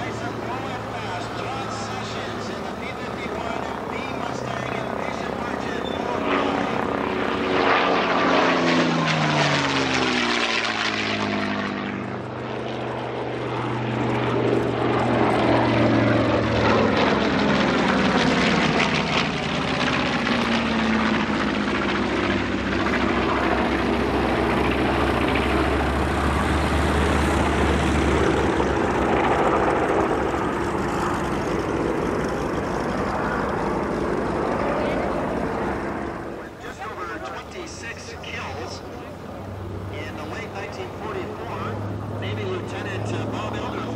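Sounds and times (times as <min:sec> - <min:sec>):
propeller planes flying past: 0:00.0 - 0:43.9.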